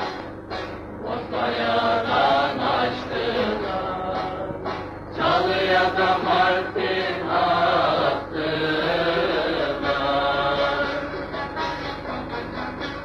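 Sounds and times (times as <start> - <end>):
voices singing together: 0.9 - 13.0.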